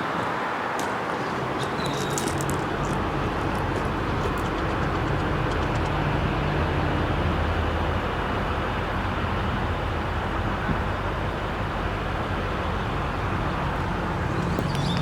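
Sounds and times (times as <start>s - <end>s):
truck engine running: 1.4s - 15.0s.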